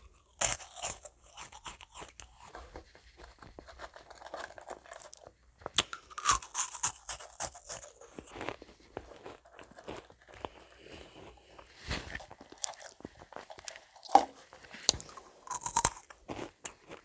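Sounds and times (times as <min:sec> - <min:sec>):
crunchy cookies being chewed: 0:00.0 - 0:17.0.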